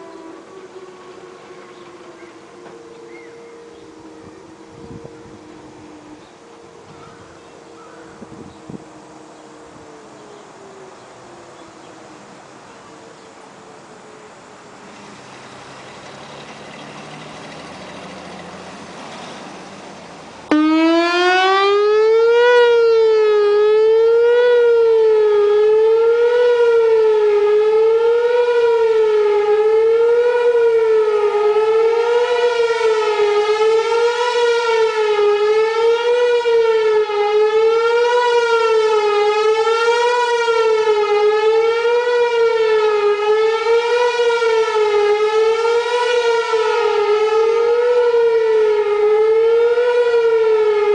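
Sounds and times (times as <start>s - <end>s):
wavering warning siren: 0.0s - 50.9s.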